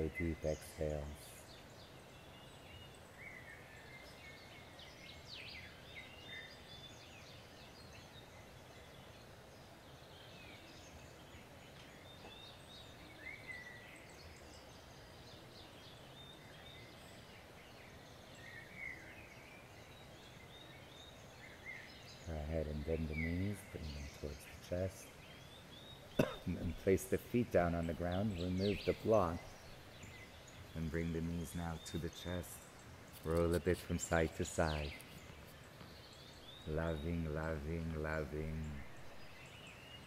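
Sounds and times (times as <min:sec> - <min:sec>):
faint birds chirping: 0:00.0 - 0:40.0
steady low hiss: 0:00.0 - 0:40.0.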